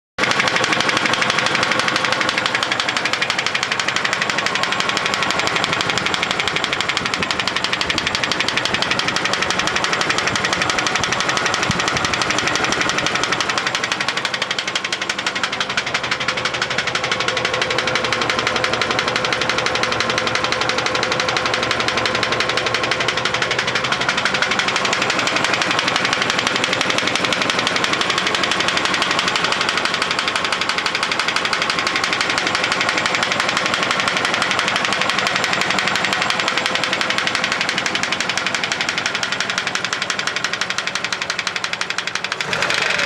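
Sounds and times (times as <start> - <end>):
car engine running: 0.2 - 43.0
rapid engine knocking: 0.2 - 43.0.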